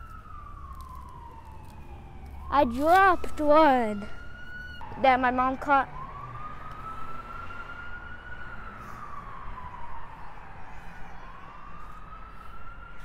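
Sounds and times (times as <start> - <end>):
emergency vehicle siren wailing: 0.0 - 13.0.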